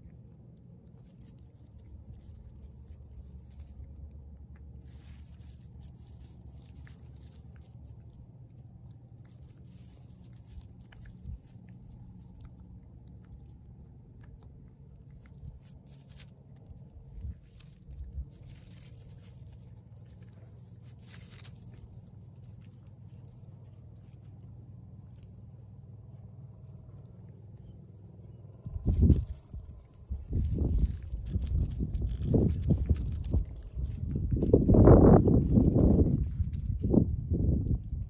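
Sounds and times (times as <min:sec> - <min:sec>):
cat chewing raw fish: 0:00.0 - 0:38.0
small crunching clicks: 0:00.0 - 0:38.0.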